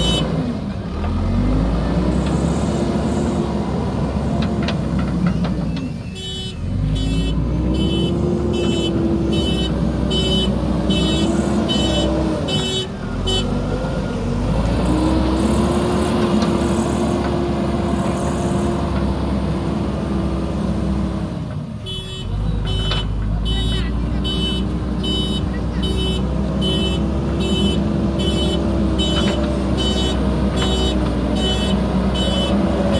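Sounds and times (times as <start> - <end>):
diesel engine revving: 0.0 - 32.9.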